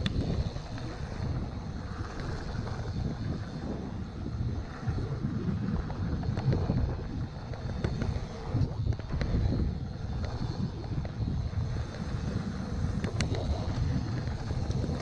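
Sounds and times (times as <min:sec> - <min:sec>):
bike rattling over bumps: 0:00.0 - 0:15.0
wind on microphone: 0:00.0 - 0:15.0.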